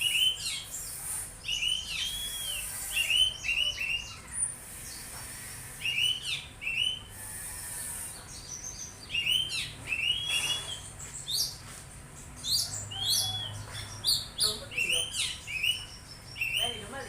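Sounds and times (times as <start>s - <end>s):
songbird chirping and singing: 0.0s - 17.0s.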